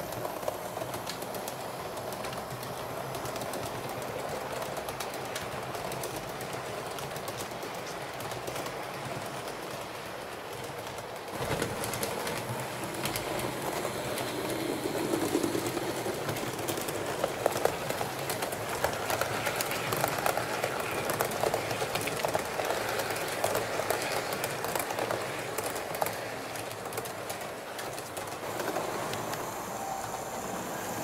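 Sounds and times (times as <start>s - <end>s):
model train wheels clicking: 0.0s - 31.0s.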